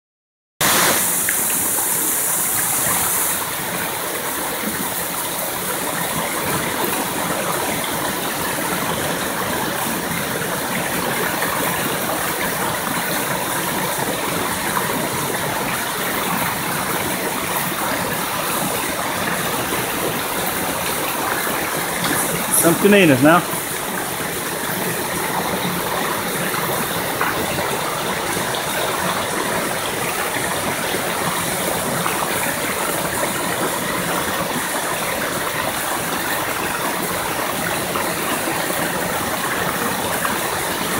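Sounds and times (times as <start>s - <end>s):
water rushing over waterfall: 0.6s - 40.9s.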